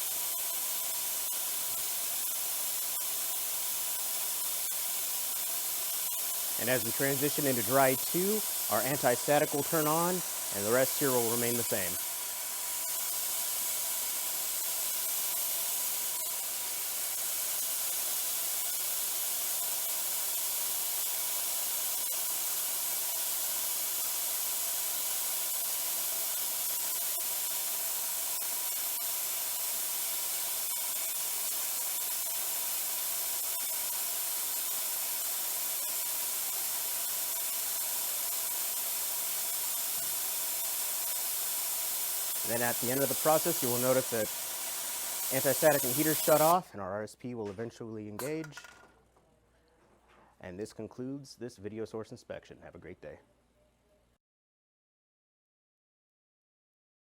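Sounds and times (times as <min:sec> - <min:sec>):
spin dryer hiss: 0:00.0 - 0:46.7.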